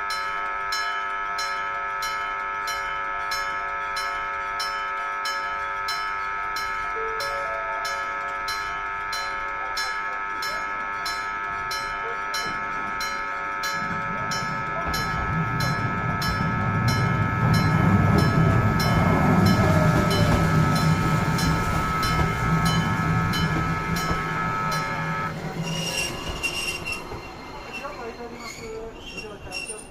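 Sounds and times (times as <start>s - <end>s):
level crossing bell ringing: 0.0s - 25.4s
tram rumbling: 0.0s - 29.9s.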